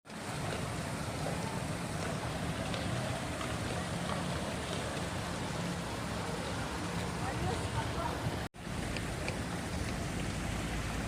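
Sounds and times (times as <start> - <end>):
low engine hum: 0.1 - 11.0.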